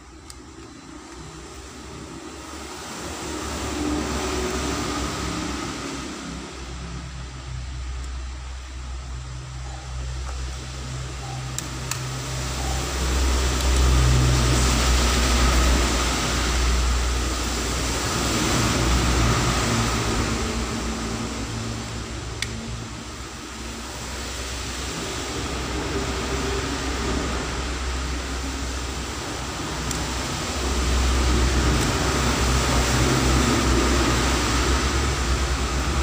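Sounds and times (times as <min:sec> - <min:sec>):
fan-like noise with low hum: 0:00.0 - 0:36.0.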